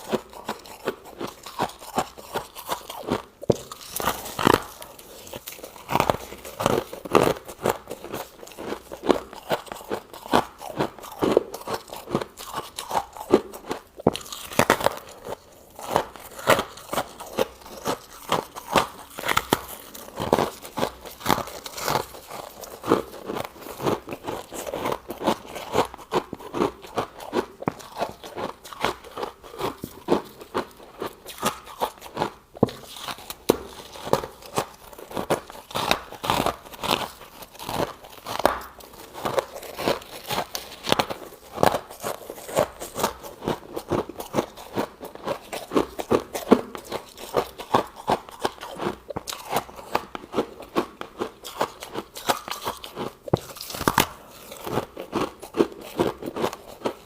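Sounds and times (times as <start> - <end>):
frost crunching while chewed: 0.0 - 57.0.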